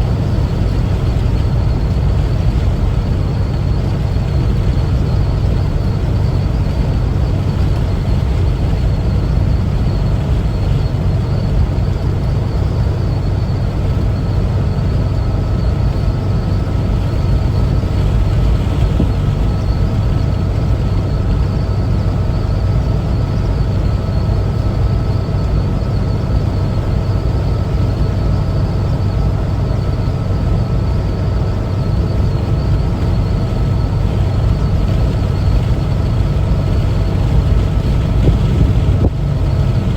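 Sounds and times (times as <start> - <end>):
faint steady whine: 0.0 - 39.9
road noise: 0.0 - 39.9
van engine running: 0.0 - 39.9.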